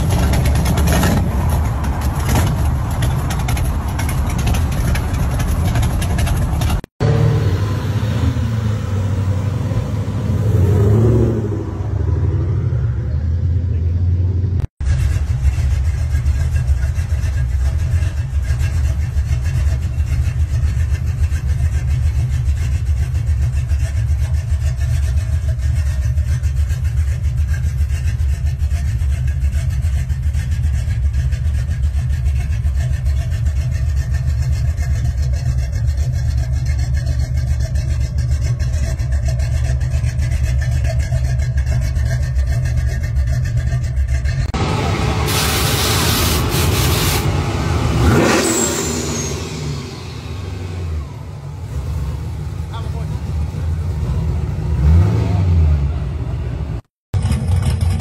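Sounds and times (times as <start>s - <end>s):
car engine idling: 0.0s - 7.8s, 11.7s - 55.0s.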